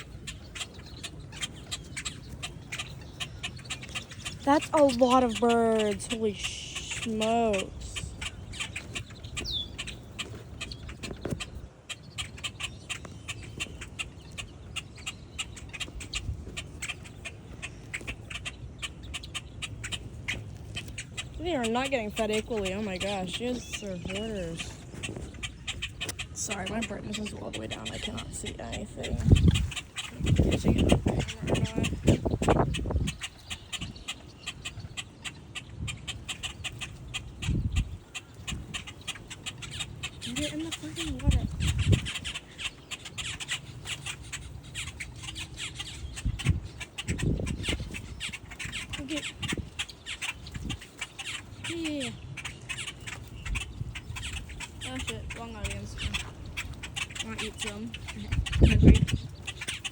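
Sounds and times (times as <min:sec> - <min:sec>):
moorhens clucking: 0:00.0 - 0:59.9.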